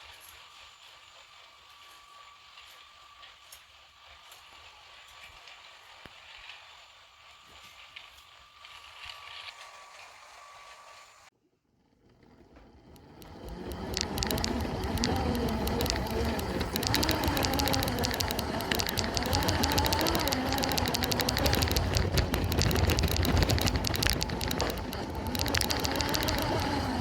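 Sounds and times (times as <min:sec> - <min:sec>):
toy train clicking and rattling: 0:00.0 - 0:10.1, 0:12.5 - 0:27.0
toy train motor whine: 0:00.0 - 0:11.3, 0:12.4 - 0:27.0.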